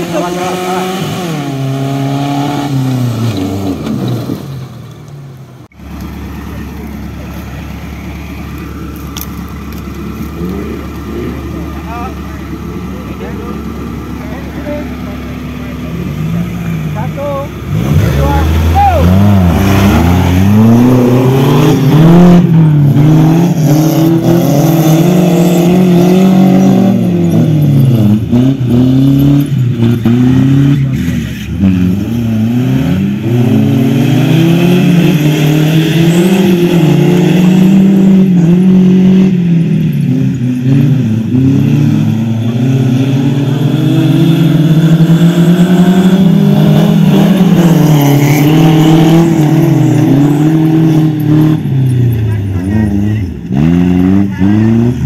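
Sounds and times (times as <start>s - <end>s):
buggy engines revving: 0.0s - 55.0s.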